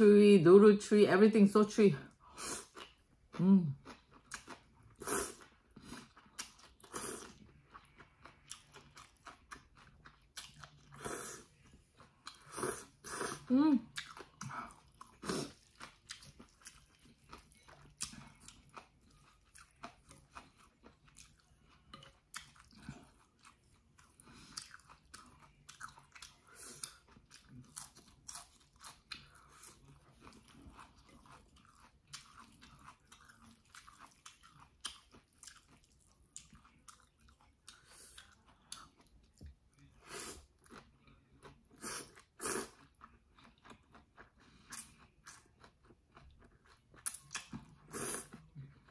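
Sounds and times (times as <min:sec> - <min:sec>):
wet chewing: 0:02.6 - 0:48.9.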